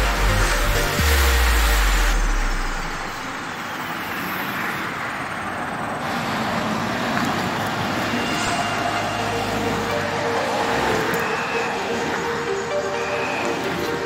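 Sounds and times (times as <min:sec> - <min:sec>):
traffic noise: 0:00.0 - 0:14.0.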